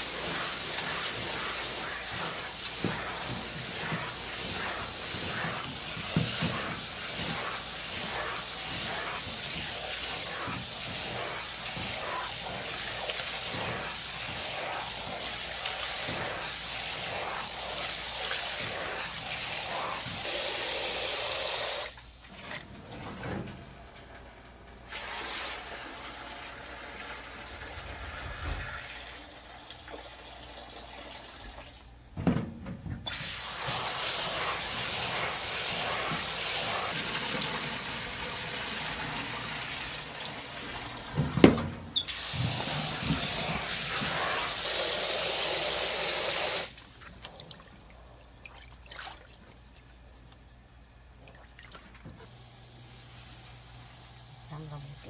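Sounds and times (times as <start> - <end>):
tap water running into metal bowl: 0.0 - 22.0, 23.5 - 31.8, 33.1 - 47.0
rice being rinsed by hand: 0.0 - 31.9, 33.0 - 55.0.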